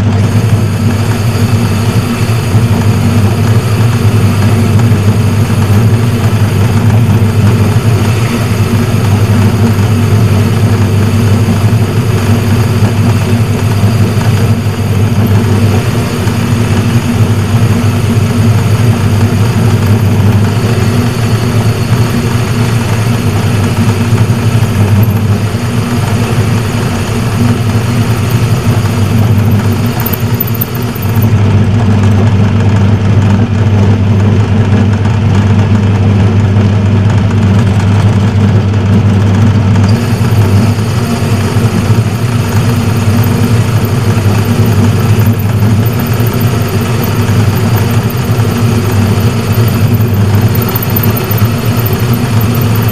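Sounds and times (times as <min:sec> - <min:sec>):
metal lathe motor humming: 0:00.0 - 0:52.9.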